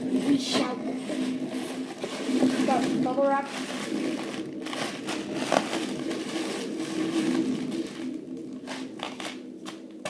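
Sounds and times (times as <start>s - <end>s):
bubble wrap rustling and crackling: 0.0s - 10.0s
low steady hum: 0.0s - 10.0s.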